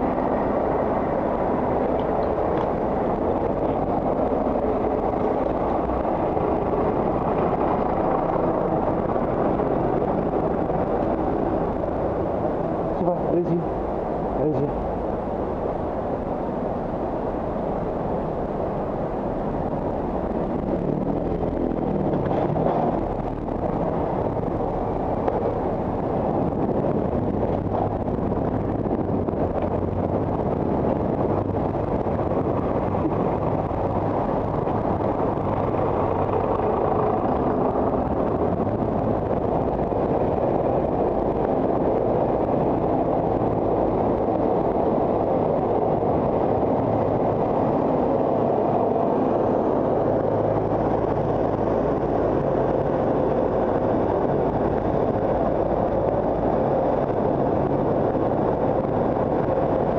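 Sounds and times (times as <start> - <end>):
slow car traffic rumble: 0.0 - 59.9.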